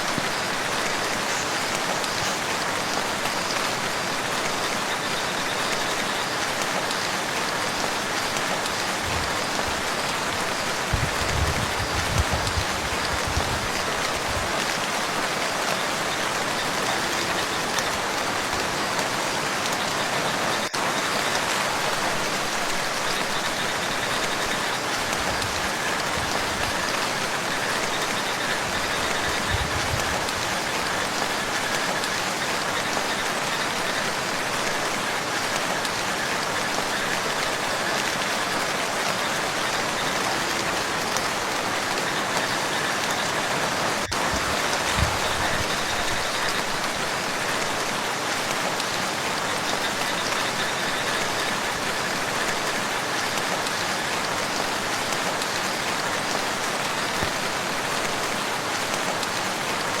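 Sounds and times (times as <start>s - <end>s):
rain falling on water: 0.0s - 60.0s.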